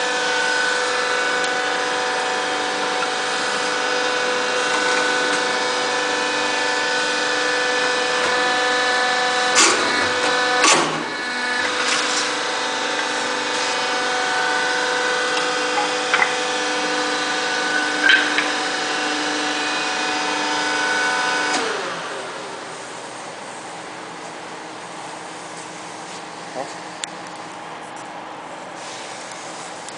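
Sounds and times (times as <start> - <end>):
hydraulic press humming: 0.0 - 25.0.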